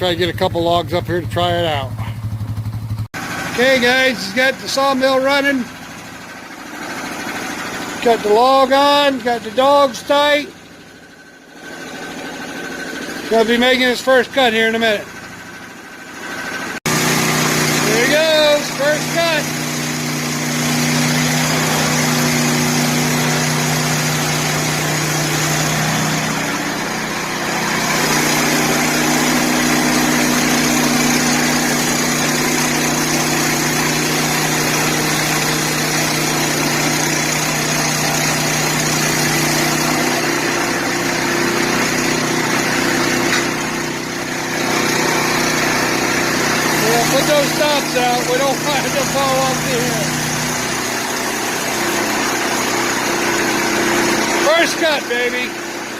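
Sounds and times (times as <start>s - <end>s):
sawmill engine under load: 0.0s - 55.9s.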